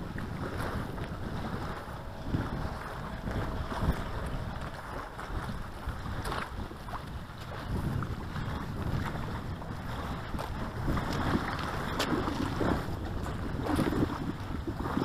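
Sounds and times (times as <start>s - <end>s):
wind gusting over microphone: 0.0s - 15.0s.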